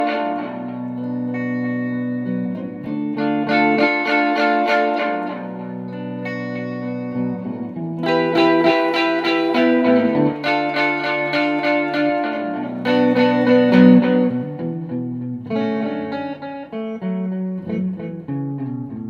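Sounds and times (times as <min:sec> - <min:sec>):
electric guitar playing: 0:00.0 - 0:19.0.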